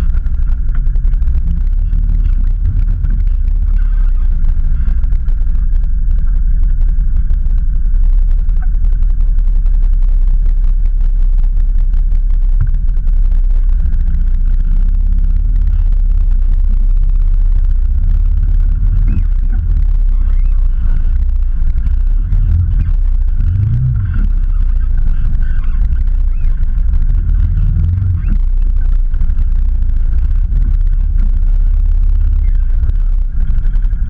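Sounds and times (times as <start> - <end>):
off-road vehicle engine idling: 0.0 - 34.0.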